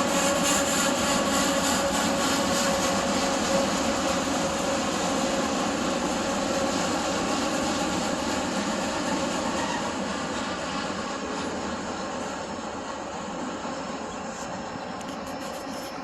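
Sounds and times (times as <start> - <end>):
freight train wheels rolling: 0.0 - 16.0.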